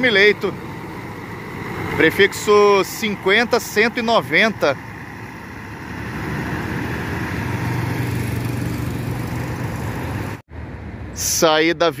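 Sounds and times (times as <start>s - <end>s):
vehicle engine running: 0.0s - 10.4s
road noise: 0.0s - 12.0s.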